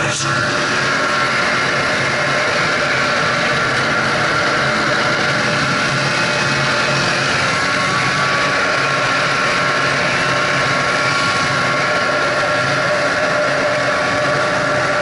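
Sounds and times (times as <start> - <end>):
rushing noise: 0.0 - 15.0
snowmobile engine whine: 0.0 - 15.0.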